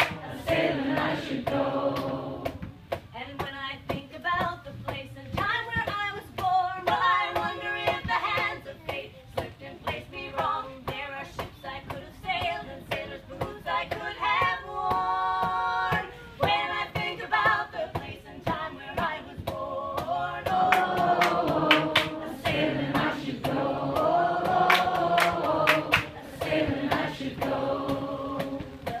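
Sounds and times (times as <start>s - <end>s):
hand claps: 0.0s - 16.1s, 17.0s - 29.0s
women singing in harmony: 0.0s - 29.0s.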